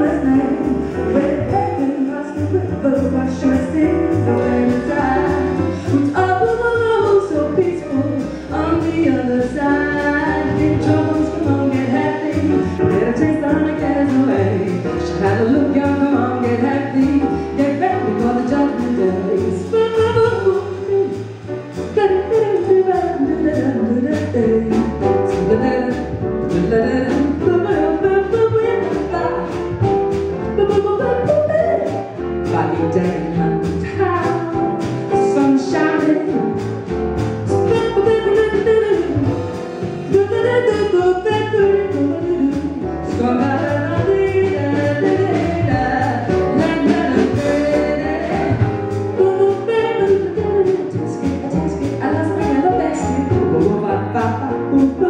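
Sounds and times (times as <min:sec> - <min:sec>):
woman singing into a microphone: 0:00.0 - 0:21.2, 0:21.9 - 0:29.5, 0:30.6 - 0:31.9, 0:32.5 - 0:36.6, 0:37.7 - 0:39.4, 0:40.1 - 0:55.0
drum kit with cymbals: 0:00.0 - 0:55.0.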